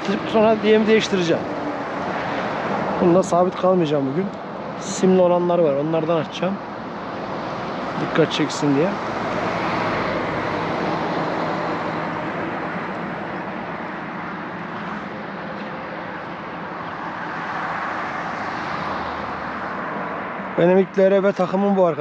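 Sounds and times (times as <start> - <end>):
distant road traffic: 0.0 - 22.0.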